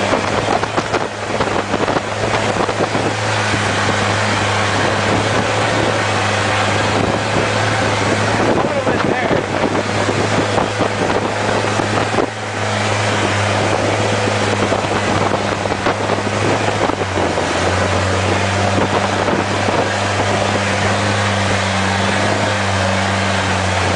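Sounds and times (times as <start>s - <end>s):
boat engine droning: 0.0s - 23.9s
water rushing past hull: 0.0s - 23.9s
wind on microphone: 0.0s - 23.9s.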